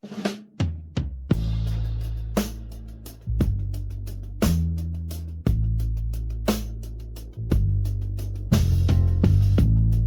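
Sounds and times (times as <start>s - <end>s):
drum kit with cymbal strikes: 0.0s - 10.0s
bass notes: 1.3s - 10.0s.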